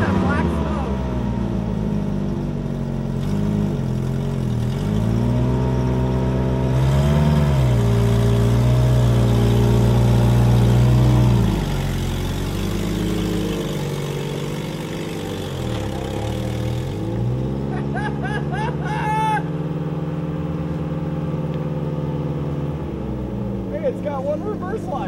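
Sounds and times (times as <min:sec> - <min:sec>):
pickup engine revving and idling: 0:00.0 - 0:25.0.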